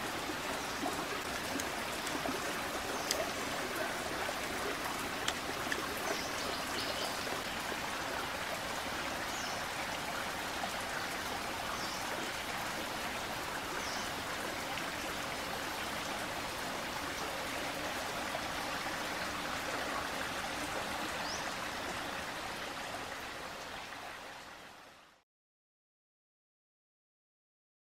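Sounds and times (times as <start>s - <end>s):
creek trickling over stones: 0.0s - 25.0s.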